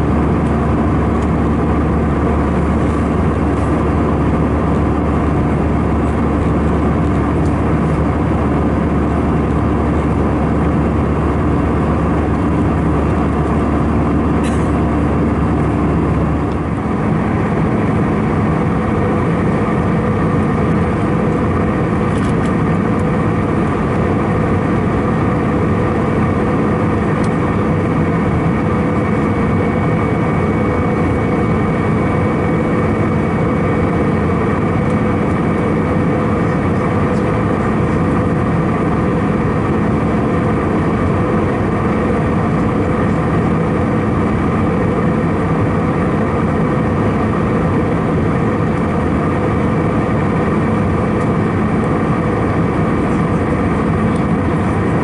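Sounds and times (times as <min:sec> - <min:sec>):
airliner cabin engine drone: 0:00.0 - 0:55.0
steady hums: 0:00.0 - 0:55.0.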